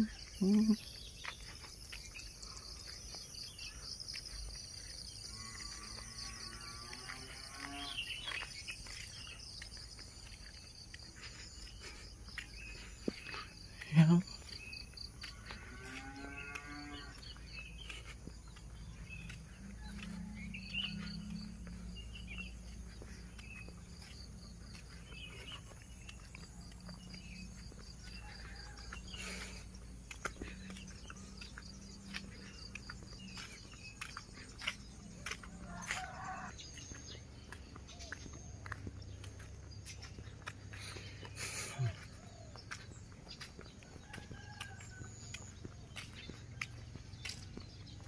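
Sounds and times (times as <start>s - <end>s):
footsteps on road: 0.0s - 48.0s.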